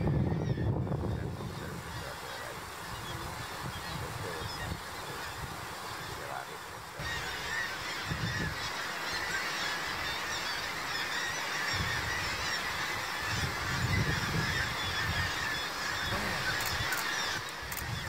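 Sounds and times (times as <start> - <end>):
seabirds calling: 0.0 - 18.0.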